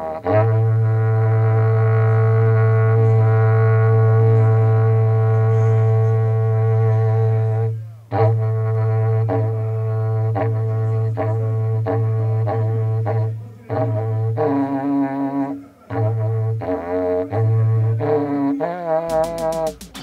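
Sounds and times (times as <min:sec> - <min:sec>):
cattle-horn trumpet drone: 0:00.0 - 0:19.8.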